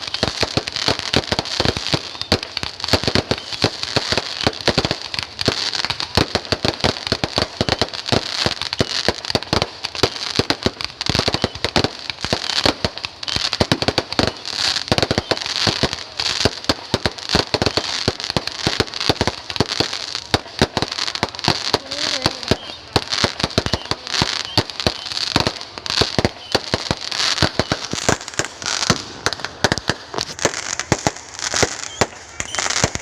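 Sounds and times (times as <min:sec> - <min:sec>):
fireworks popping and cracking: 0:00.0 - 0:33.0.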